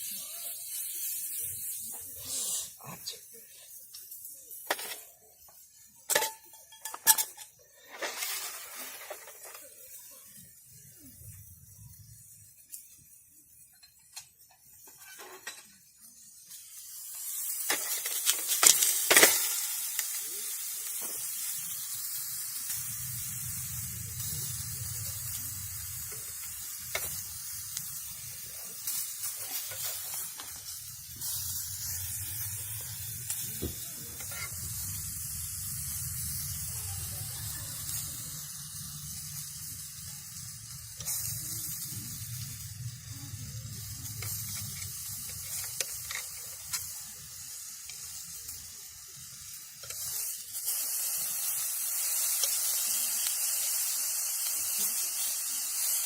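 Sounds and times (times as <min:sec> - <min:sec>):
food sizzling in a hot pan: 0:00.0 - 0:56.0.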